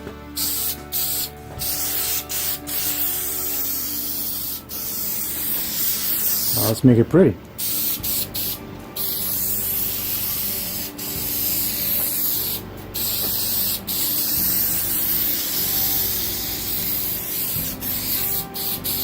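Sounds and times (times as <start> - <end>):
aerosol can spraying: 0.4 - 6.8, 7.6 - 19.0.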